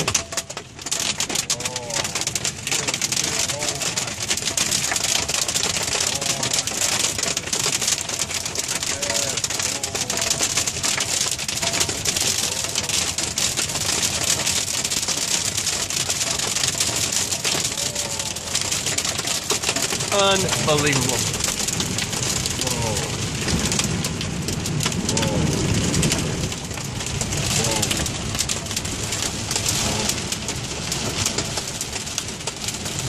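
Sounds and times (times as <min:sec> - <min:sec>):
hail pelting a car roof: 0:00.0 - 0:33.0.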